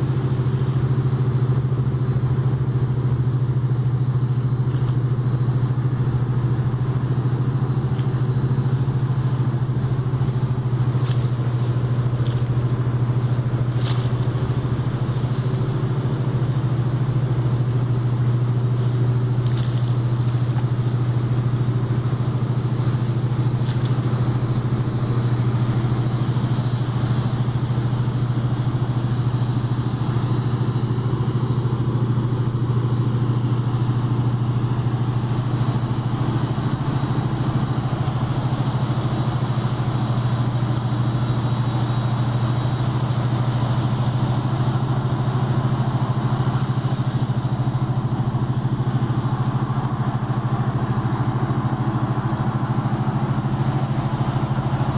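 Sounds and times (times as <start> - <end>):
low engine-like hum: 0.0 - 54.9.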